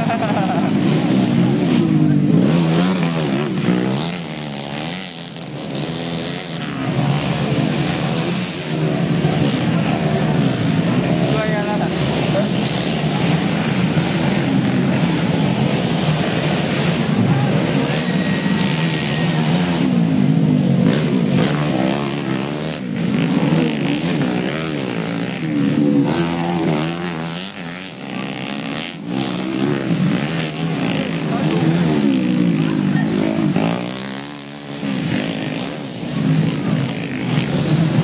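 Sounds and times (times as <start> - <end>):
crowd chatter: 0.0 - 38.0
dirt bike engines revving: 0.0 - 38.0.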